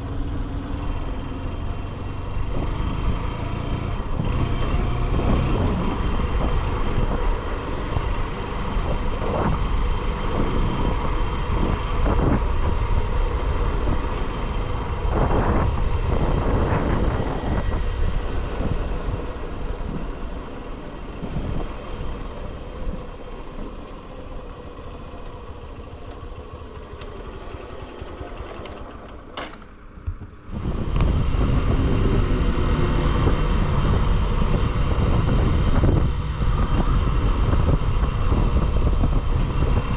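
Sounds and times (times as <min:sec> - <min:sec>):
motorcycle engine running: 0:00.0 - 0:39.9
passing traffic: 0:00.0 - 0:39.9
wind and road noise: 0:00.0 - 0:39.9.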